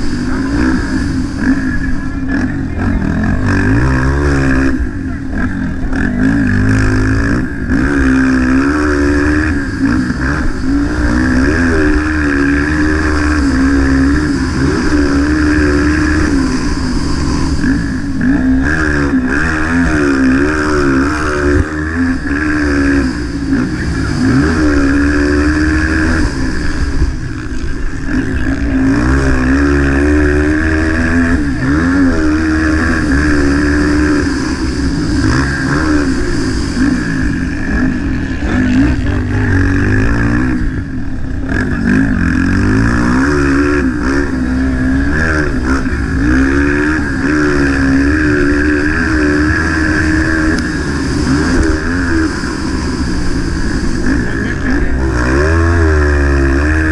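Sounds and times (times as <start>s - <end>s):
motocross bike engine racing: 0.0s - 56.9s.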